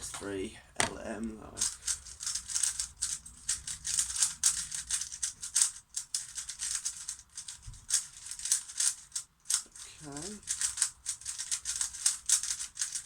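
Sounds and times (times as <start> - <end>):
speedcube clicking and rattling: 1.6 - 13.0.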